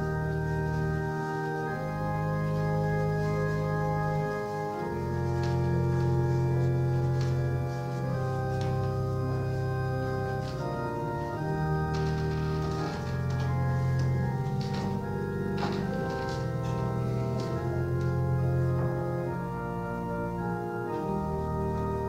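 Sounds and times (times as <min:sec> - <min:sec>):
organ playing held chords: 0:00.0 - 0:22.0.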